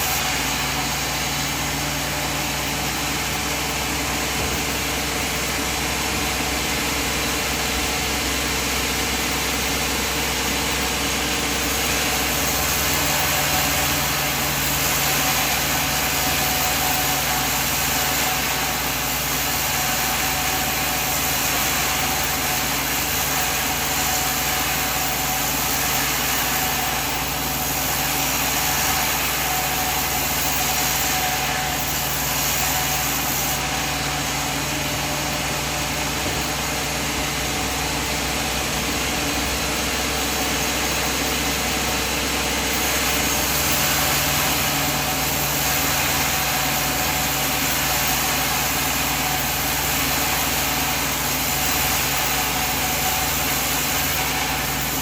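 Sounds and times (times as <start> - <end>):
sawmill machine drone: 0.0 - 55.0.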